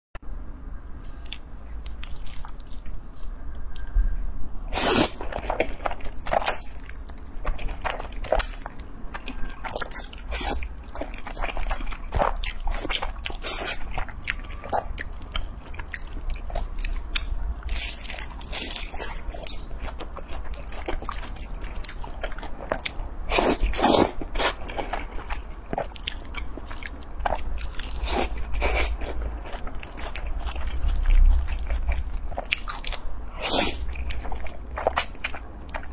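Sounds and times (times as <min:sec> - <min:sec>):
chewing smacks and crunches: 0:05.0 - 0:35.9.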